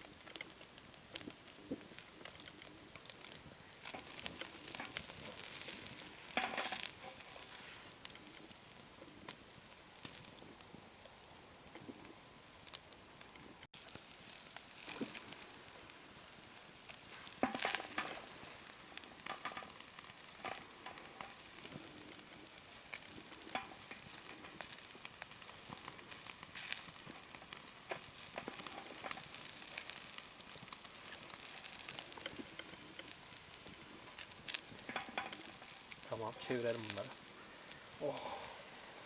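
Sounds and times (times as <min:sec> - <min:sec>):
fire crackling and popping: 0:00.0 - 0:39.0
patties sizzling on a grill: 0:00.0 - 0:39.0.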